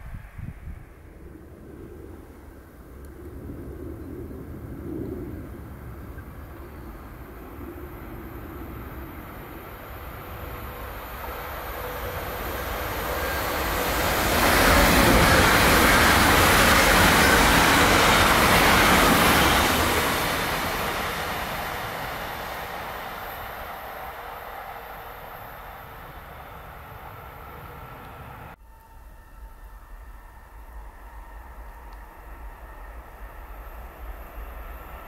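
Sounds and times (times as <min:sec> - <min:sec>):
train passing at speed: 0:00.0 - 0:35.0.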